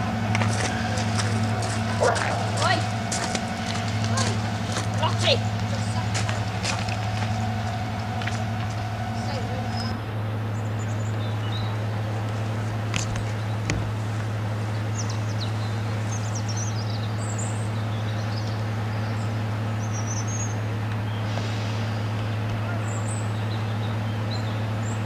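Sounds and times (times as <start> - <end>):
birds chirping: 0.0 - 25.0
diesel locomotive engine drone: 0.0 - 25.0.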